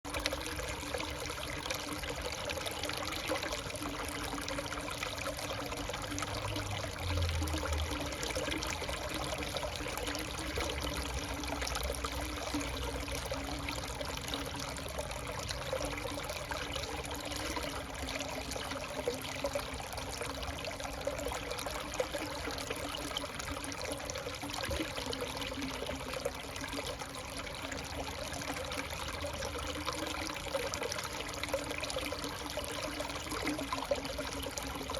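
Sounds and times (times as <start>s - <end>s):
water running and trickling: 0.1s - 34.9s.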